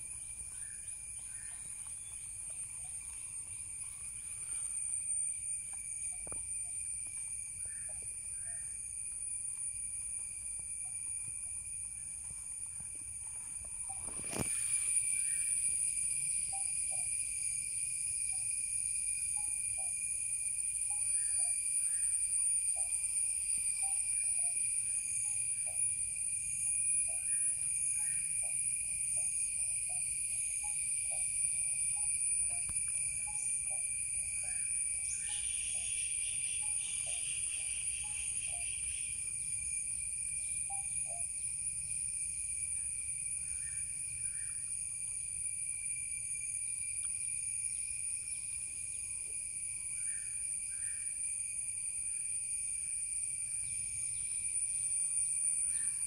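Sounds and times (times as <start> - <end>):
insect chirps: 0.0 - 56.0
insect pulsing trill: 0.0 - 56.0
insects droning: 0.0 - 56.0.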